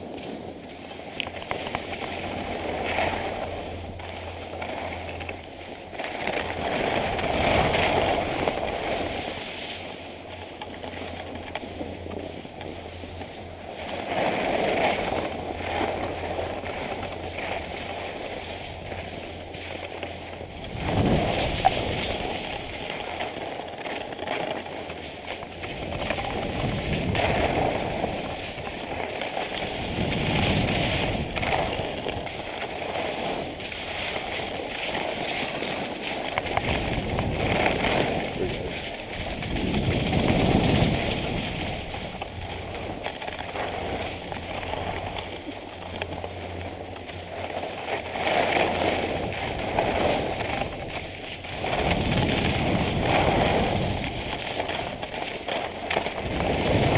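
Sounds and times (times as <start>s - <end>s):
skis scraping on snow: 0.0s - 56.9s
wind on microphone: 0.0s - 56.9s.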